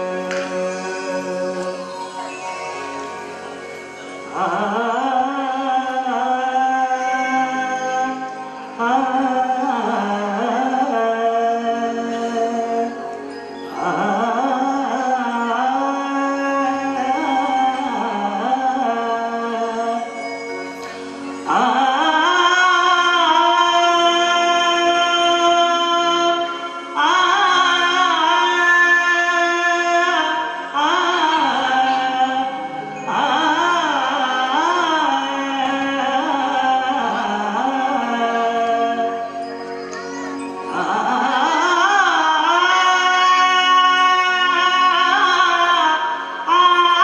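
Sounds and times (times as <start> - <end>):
man singing into a microphone: 0.0 - 2.5, 4.2 - 47.0.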